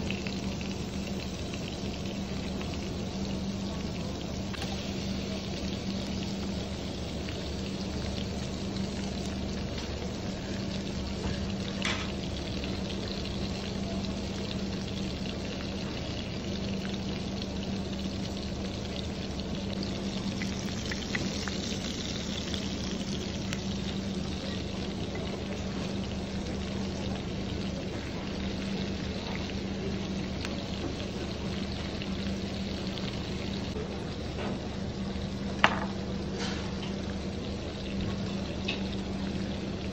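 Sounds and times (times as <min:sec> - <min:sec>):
food sizzling in a pot: 0:00.0 - 0:33.8.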